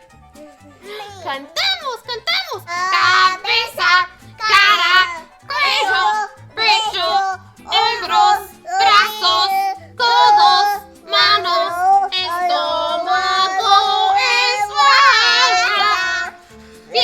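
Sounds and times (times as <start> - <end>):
children singing: 2.6 - 17.0.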